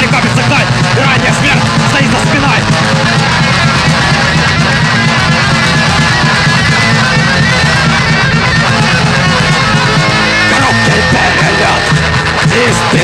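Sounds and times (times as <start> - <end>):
thrash metal music: 0.0 - 13.0.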